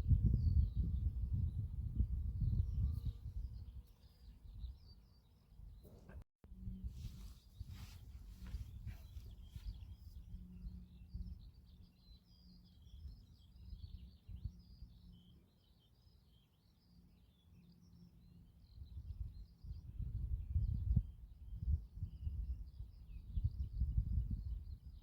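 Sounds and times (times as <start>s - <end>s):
faint songbirds chirping: 0.0s - 25.0s.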